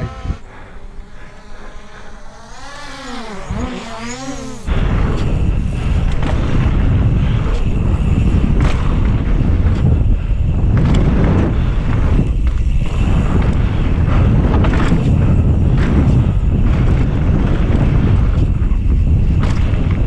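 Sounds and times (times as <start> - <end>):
wind rumble on microphone: 0.0 - 2.2, 3.4 - 20.0
quadcopter motors whining: 0.0 - 20.0.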